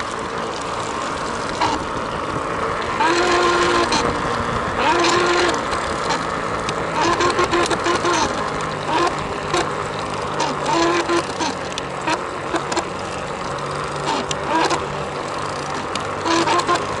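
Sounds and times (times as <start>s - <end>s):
e-bike motor whining: 0.0s - 17.0s
motor hum and riding noise: 0.0s - 17.0s.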